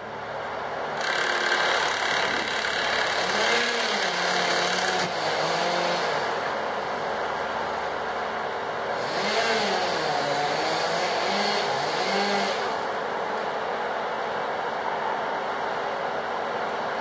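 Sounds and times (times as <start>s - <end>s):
crane engine under load: 0.0s - 17.0s.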